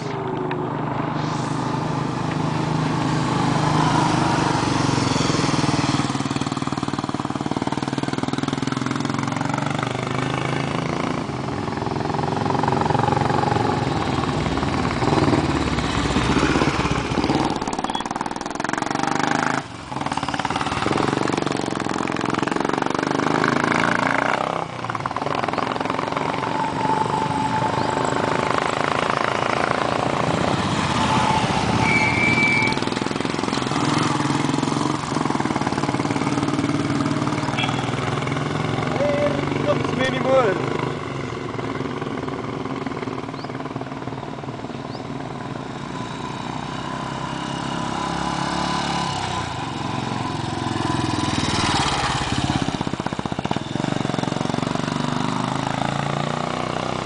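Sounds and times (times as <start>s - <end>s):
motorcycles passing by: 0.0s - 57.0s.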